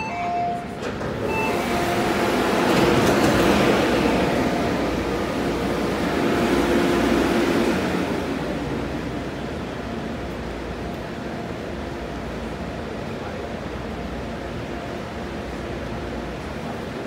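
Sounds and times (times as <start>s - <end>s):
train running and wheel noise: 0.0s - 17.0s.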